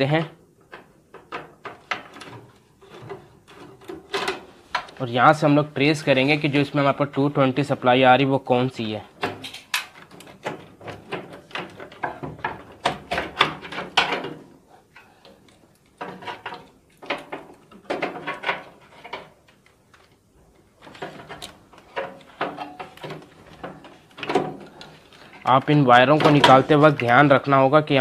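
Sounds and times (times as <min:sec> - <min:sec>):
small clicks and rattles on metal: 0:00.6 - 0:05.0, 0:09.1 - 0:27.4.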